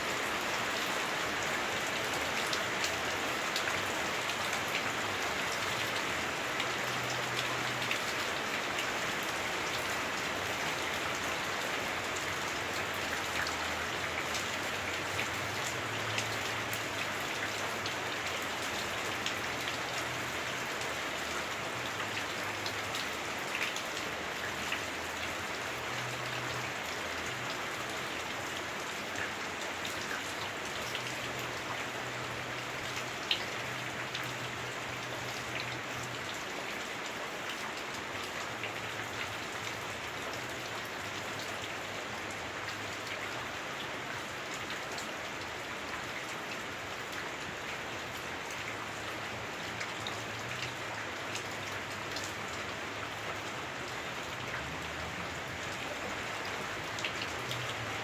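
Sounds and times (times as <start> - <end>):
heavy rain on roof: 0.0 - 58.0.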